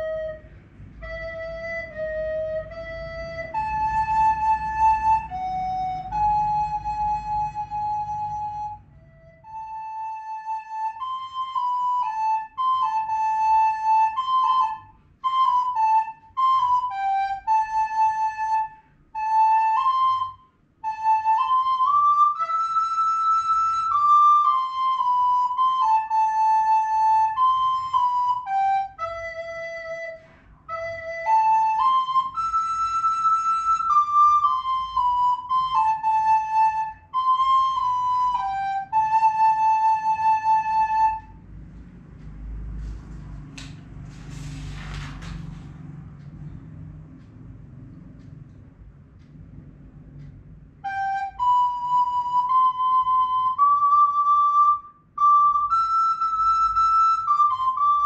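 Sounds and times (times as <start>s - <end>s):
recorder playing slow melody: 0.0s - 42.8s, 49.6s - 58.0s.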